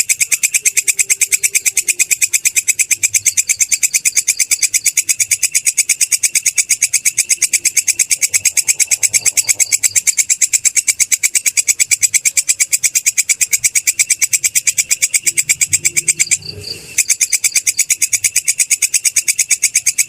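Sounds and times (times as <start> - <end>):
katydid shrill chirps: 0.0 - 20.0.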